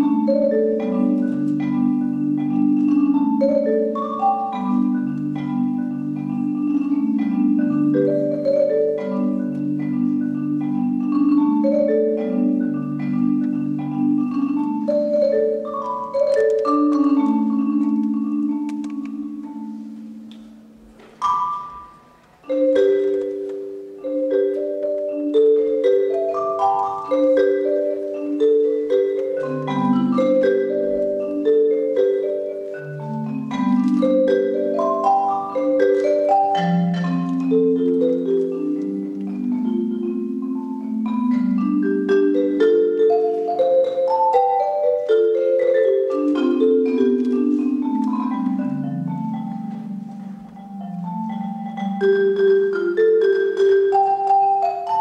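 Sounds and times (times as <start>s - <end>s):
marimba chords: 0.0s - 55.0s.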